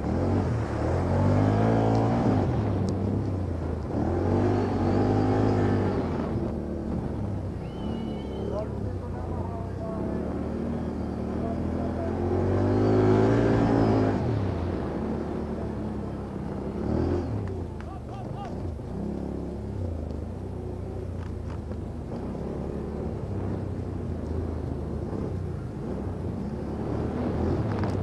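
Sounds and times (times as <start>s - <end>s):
quad bike engine revving: 0.0s - 19.9s, 22.1s - 28.0s.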